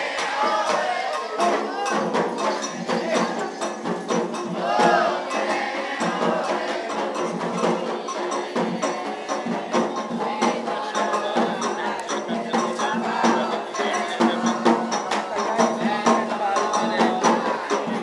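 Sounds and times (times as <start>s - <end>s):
hand drums: 0.0s - 18.0s
voices singing: 0.0s - 18.0s
struck bell or clapper: 0.2s - 18.0s.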